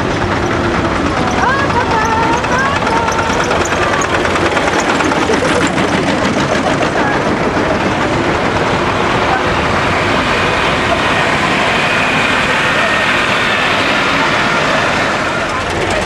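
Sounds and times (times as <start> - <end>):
crowd chatter: 0.0 - 16.0
tractor engines running: 0.0 - 16.0.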